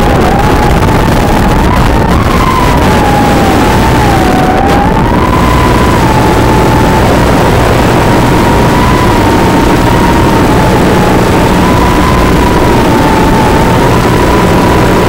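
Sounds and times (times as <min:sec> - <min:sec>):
drone motors whining: 0:00.0 - 0:15.0
wind rush: 0:00.0 - 0:15.0.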